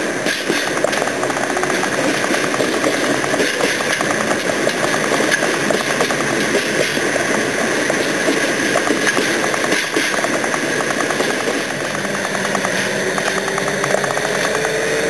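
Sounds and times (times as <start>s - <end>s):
rattling engine noise: 0.0s - 15.0s.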